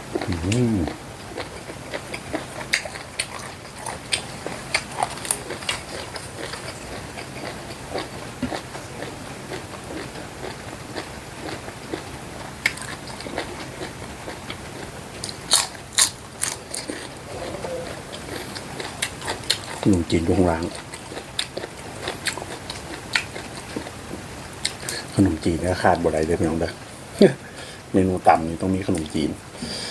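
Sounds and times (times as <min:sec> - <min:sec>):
wet crunching and chewing: 0:00.1 - 0:26.0.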